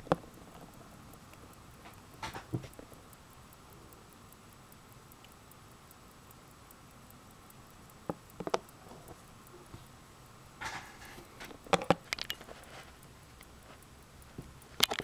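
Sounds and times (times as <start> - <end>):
pocket watch ticking: 0.0 - 15.0.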